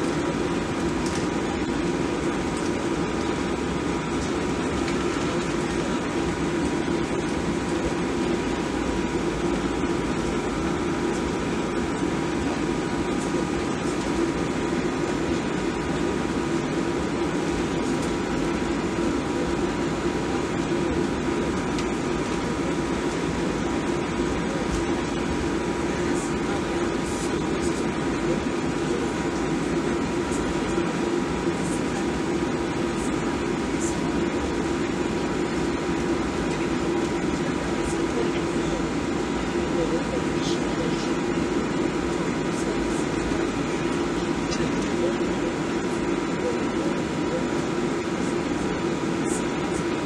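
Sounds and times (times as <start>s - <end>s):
airliner cabin drone: 0.0s - 50.0s
faint steady engine whine: 0.0s - 50.0s.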